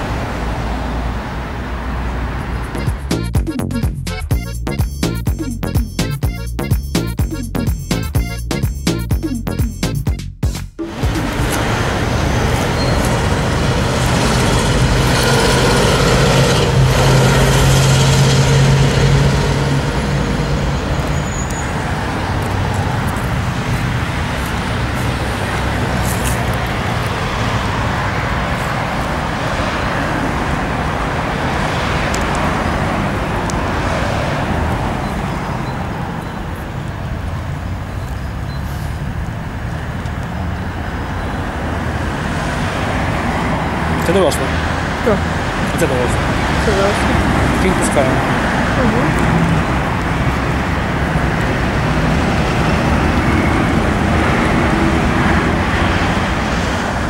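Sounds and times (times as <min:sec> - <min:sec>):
road traffic noise: 0:00.0 - 0:57.0
low engine hum: 0:10.8 - 0:57.0.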